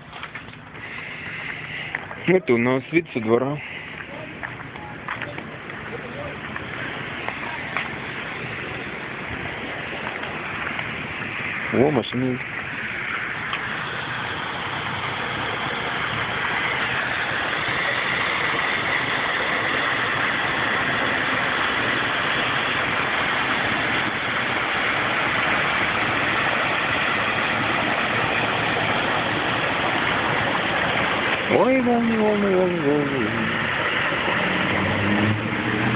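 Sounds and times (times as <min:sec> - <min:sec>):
vehicle engines: 0:00.0 - 0:35.9
water rushing under vehicles: 0:00.0 - 0:35.9.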